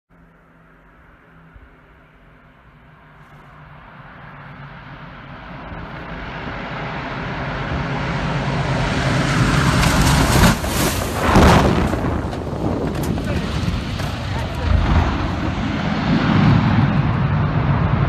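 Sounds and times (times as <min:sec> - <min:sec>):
propeller plane engines: 0:00.1 - 0:18.0.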